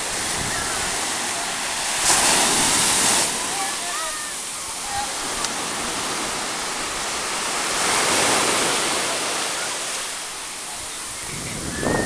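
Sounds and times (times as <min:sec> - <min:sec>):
small waves breaking on beach: 0:00.0 - 0:12.0.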